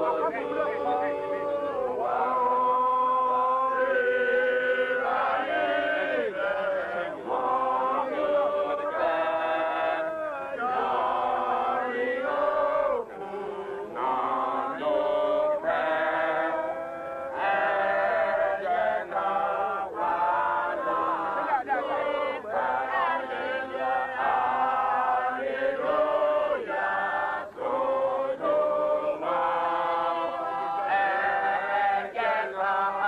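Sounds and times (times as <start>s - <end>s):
group chanting melodically: 0.0s - 33.0s.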